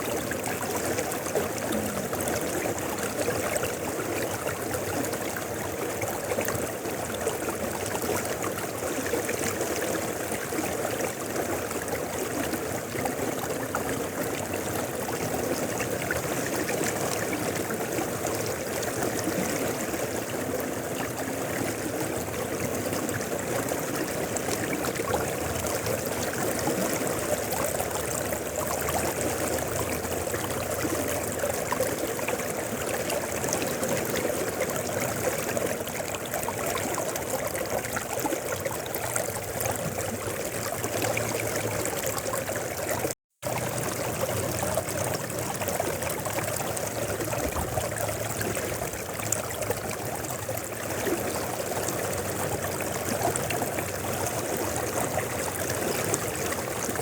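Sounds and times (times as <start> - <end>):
river rushing and trickling: 0.0 - 57.0.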